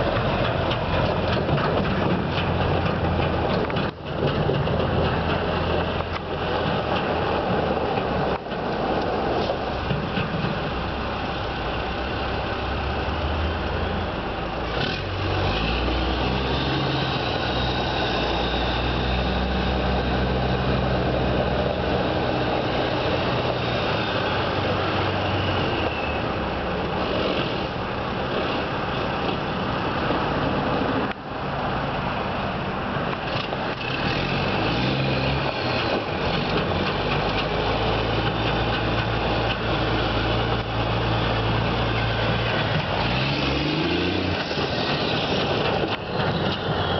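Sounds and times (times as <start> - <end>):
diesel truck engine revving: 0.0 - 46.9.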